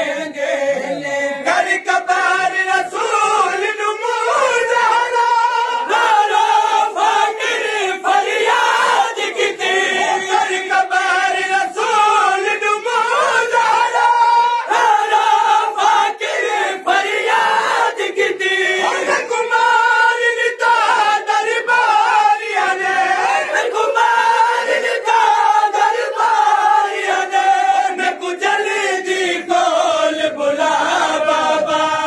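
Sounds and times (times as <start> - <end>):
crowd of men chanting: 0.0 - 32.0
lead reciter chanting: 0.0 - 32.0.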